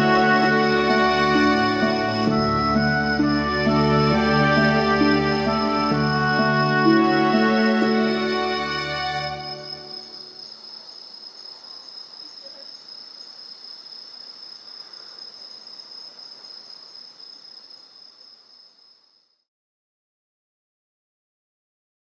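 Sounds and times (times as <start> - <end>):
crickets chirping: 0.0 - 19.5.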